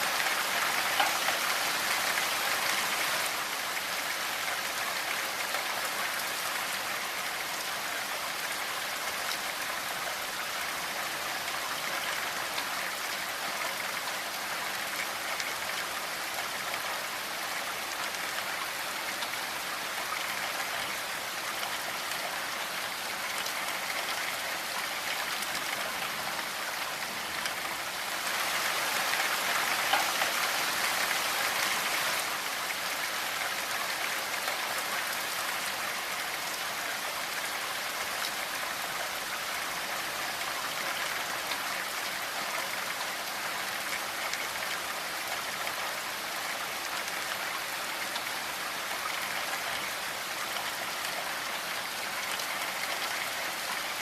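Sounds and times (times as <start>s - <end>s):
steady rainfall patter: 0.0s - 54.0s.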